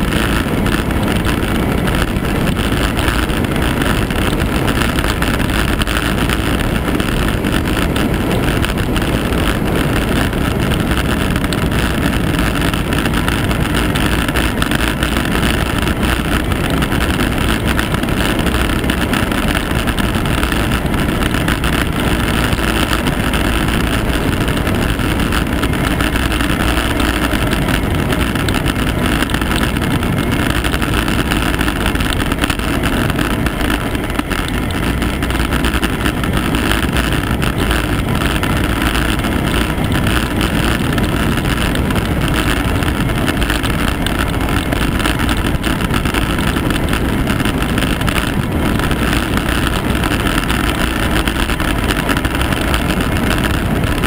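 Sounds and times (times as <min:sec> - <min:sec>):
road noise: 0:00.0 - 0:54.0
wind rush on microphone: 0:00.0 - 0:54.0.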